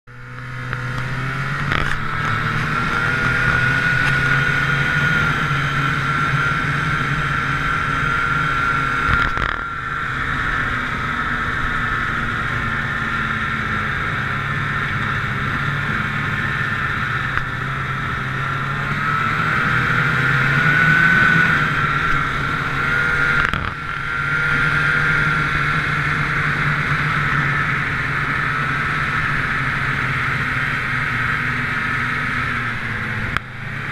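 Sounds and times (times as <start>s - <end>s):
snowmobile engine running: 0.1s - 33.9s.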